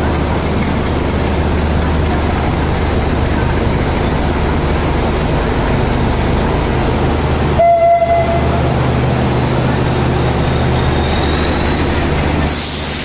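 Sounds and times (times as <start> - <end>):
low diesel drone: 0.0 - 13.0
wheels rumbling on rails: 0.0 - 13.0.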